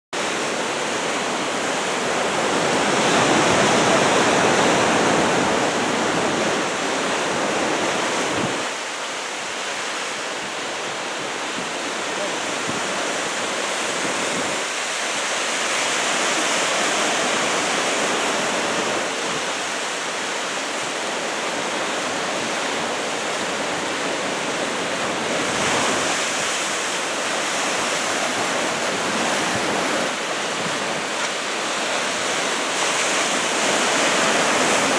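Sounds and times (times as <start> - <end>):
breaking ocean waves: 0.2 - 34.9.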